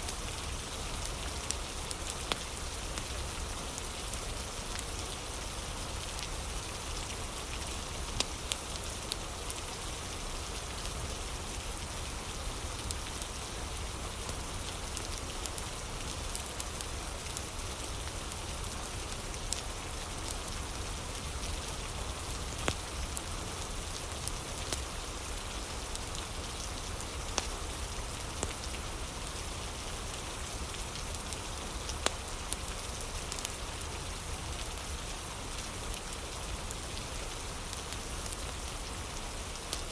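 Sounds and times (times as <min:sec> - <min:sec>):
steady rain falling: 0:00.0 - 0:39.9
wood fire crackling: 0:00.0 - 0:39.9.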